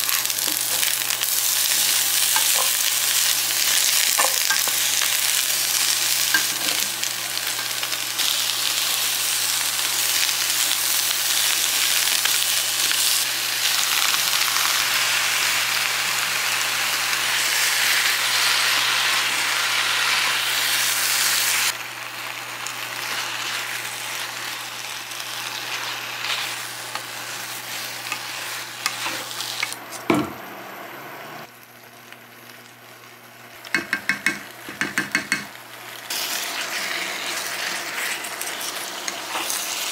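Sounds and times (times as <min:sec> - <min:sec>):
vegetables sizzling in a wok: 0:00.0 - 0:39.9.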